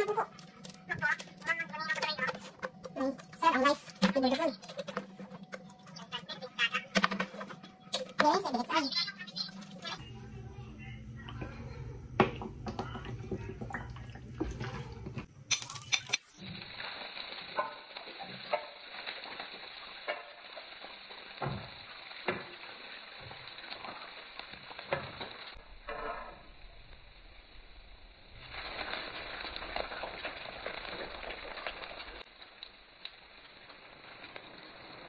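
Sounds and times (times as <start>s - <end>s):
frying sizzle: 0.0s - 35.0s.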